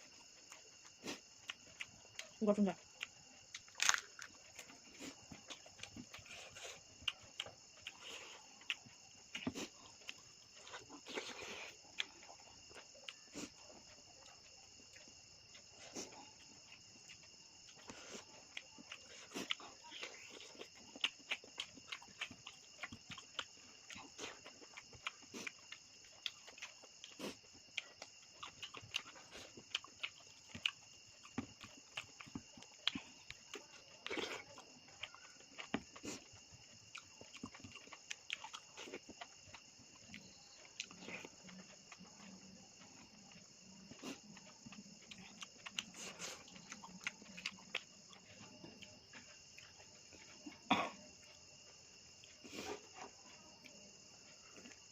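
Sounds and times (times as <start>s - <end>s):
chewing and lip-smacking: 0.0s - 54.9s
insect chirring: 0.0s - 54.9s.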